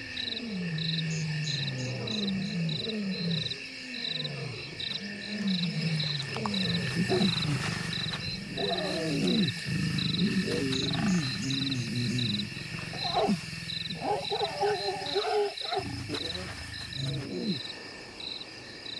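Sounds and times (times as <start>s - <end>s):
lion grunting and growling: 0.0s - 17.7s
night insects chirping: 0.0s - 18.9s.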